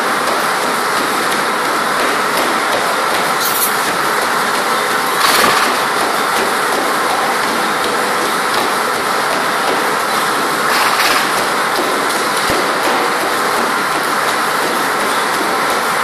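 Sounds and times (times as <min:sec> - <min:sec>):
treadmill belt and motor: 0:00.0 - 0:16.0.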